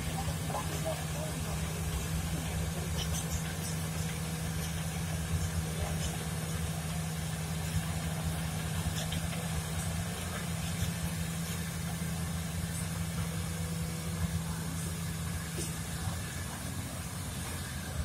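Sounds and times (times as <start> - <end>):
diesel engines humming: 0.0 - 18.0.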